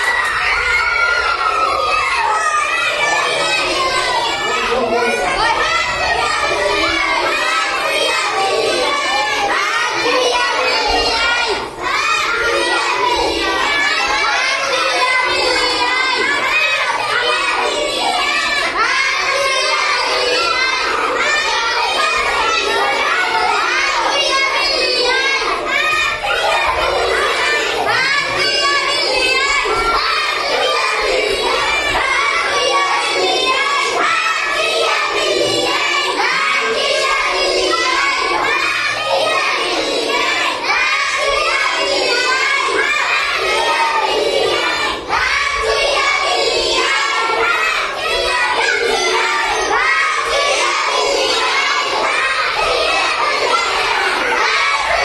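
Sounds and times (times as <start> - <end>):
children shouting and cheering: 0.0 - 55.0.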